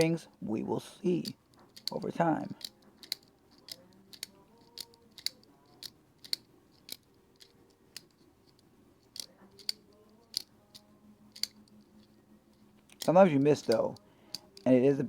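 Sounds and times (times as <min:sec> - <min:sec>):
folding knife clicking open and shut: 0:01.2 - 0:14.7.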